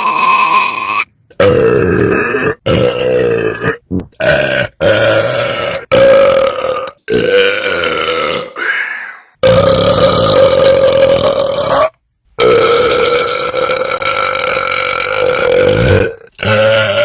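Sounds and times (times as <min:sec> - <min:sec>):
person belching: 0:00.0 - 0:08.8, 0:09.4 - 0:17.0.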